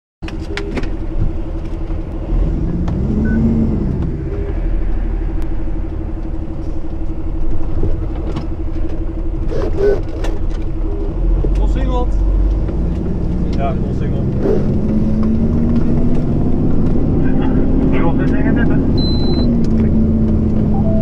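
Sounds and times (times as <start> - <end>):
diesel engine rumbling: 0.2 - 21.0.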